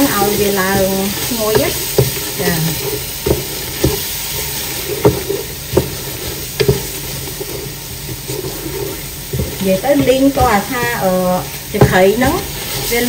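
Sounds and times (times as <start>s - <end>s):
food sizzling: 0.0s - 13.0s
wooden spatula scraping a pot: 0.0s - 13.0s.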